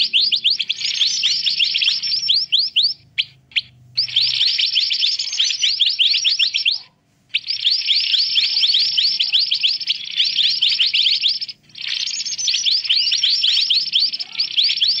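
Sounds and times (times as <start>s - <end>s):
birds chirping rapidly: 0.0s - 15.0s.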